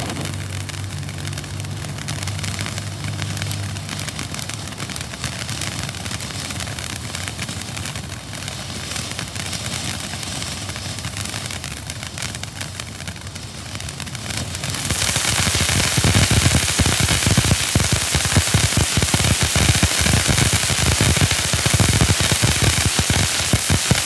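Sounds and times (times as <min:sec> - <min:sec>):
firework crackling: 0:00.0 - 0:24.0
firework fountain hissing: 0:00.0 - 0:24.0.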